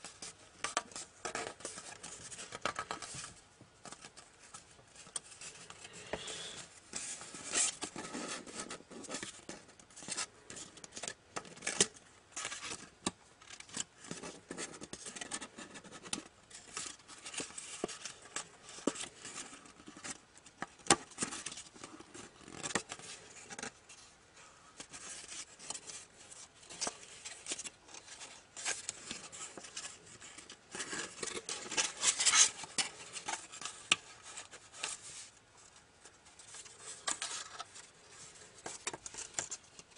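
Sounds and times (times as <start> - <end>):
paper crinkling while folded: 0.0 - 39.9.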